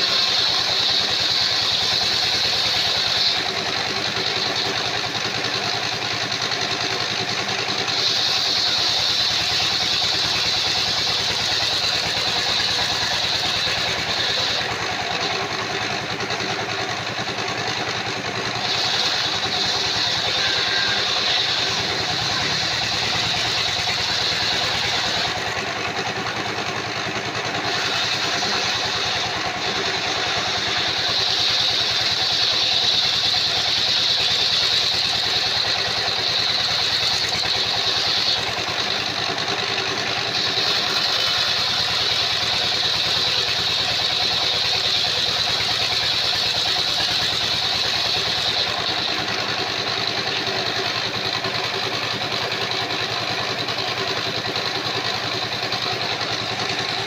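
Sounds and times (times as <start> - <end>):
circular sawmill running: 0.0 - 57.0.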